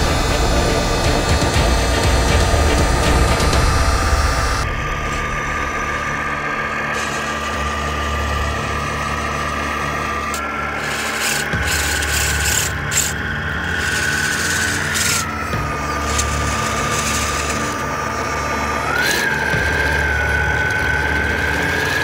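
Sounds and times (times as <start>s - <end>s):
electric motors whining: 0.0s - 22.0s
low hum: 0.0s - 22.0s.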